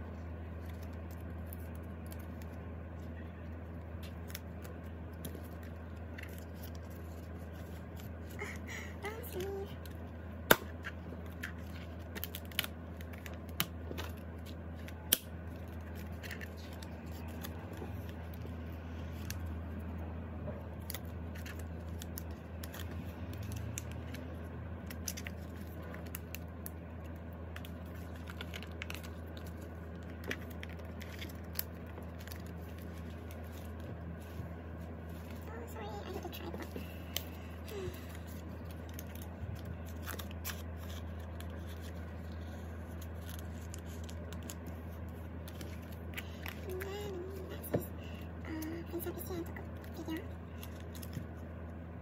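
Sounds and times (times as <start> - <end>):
steady low hum: 0.0 - 52.0
plastic sleeves crinkling: 0.2 - 20.0, 20.7 - 51.7.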